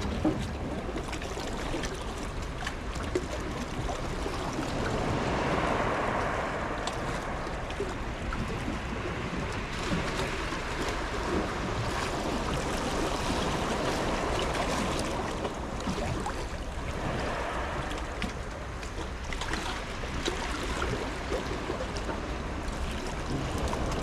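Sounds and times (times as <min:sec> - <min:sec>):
waves washing: 0:00.0 - 0:24.0
wind rumbling on microphone: 0:00.0 - 0:24.0.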